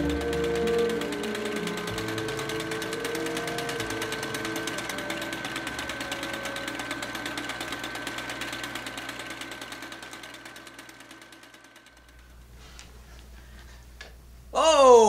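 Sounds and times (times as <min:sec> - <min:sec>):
film projector clattering: 0:00.0 - 0:12.5
projector high whine: 0:00.0 - 0:15.0.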